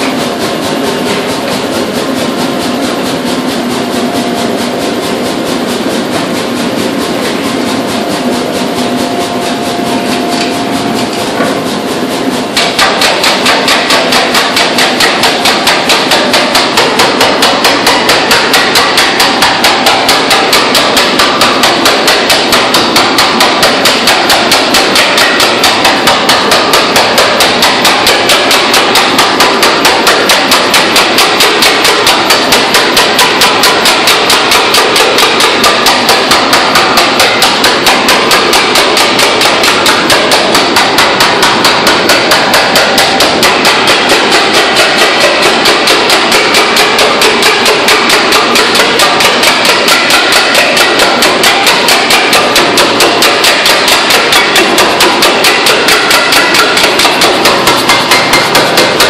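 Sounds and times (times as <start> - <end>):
hammer forging metal: 0.0 - 59.0.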